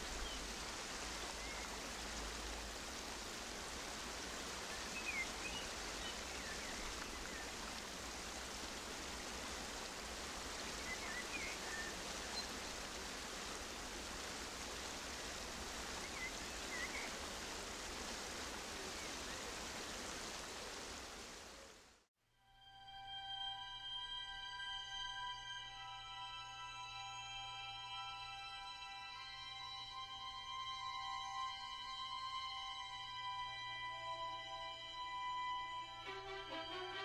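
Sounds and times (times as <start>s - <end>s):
running water rushing: 0.0s - 22.0s, 29.2s - 37.0s.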